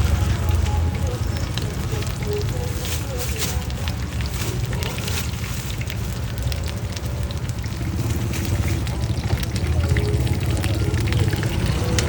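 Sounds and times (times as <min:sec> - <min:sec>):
hot oil crackling: 0:00.0 - 0:12.0
low street rumble: 0:00.0 - 0:12.0.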